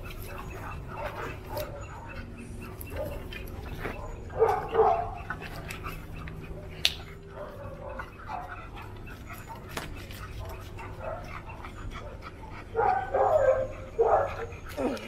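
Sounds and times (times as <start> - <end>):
dog barking: 0.2 - 5.6, 6.2 - 15.0.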